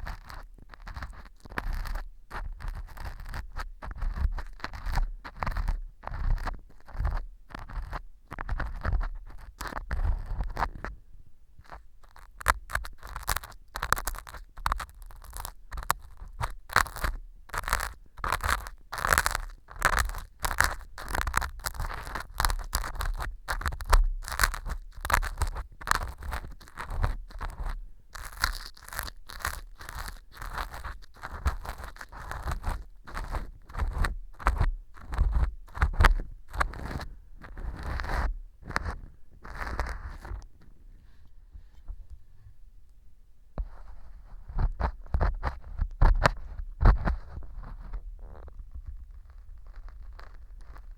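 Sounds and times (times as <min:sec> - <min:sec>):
ear pick scraping and crunching: 0:00.0 - 0:11.0, 0:11.6 - 0:42.1, 0:43.6 - 0:50.9.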